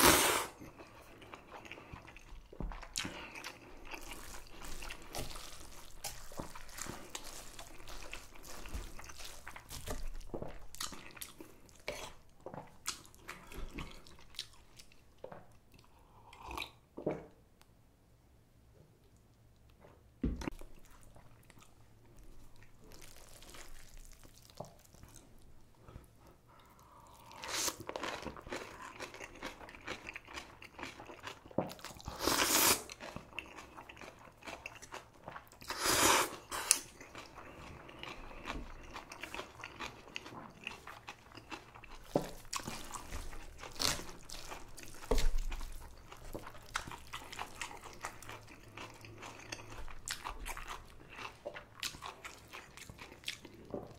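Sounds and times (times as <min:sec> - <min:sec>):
person crunching and chewing food: 0:00.0 - 0:16.8, 0:20.4 - 0:53.9.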